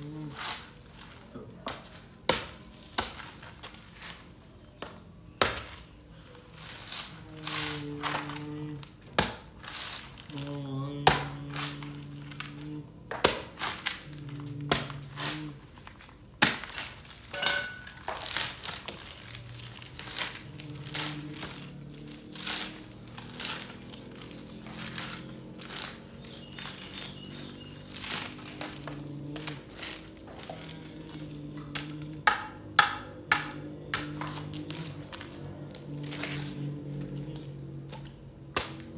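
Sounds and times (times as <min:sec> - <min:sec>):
chili stems snapping: 0:06.9 - 0:38.9.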